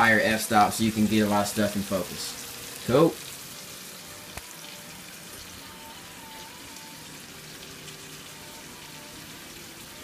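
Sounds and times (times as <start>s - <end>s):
fruit sizzling in a skillet: 0.0s - 10.0s.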